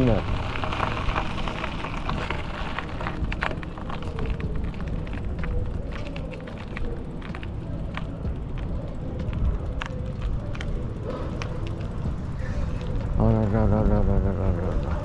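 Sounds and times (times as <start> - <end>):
bike clicks and rattles: 0.0 - 15.0
wind and tyre rumble: 0.0 - 15.0.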